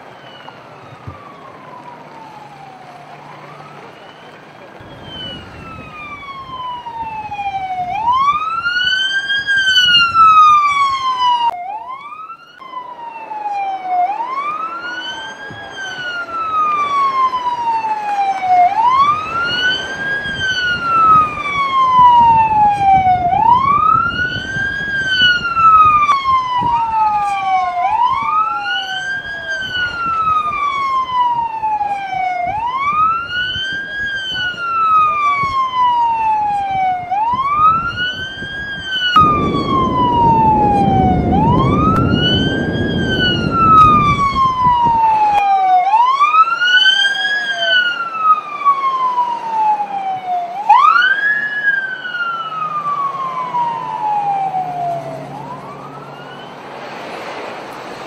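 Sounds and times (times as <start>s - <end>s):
police siren wailing: 0.0s - 58.0s
road and engine noise: 0.0s - 58.0s.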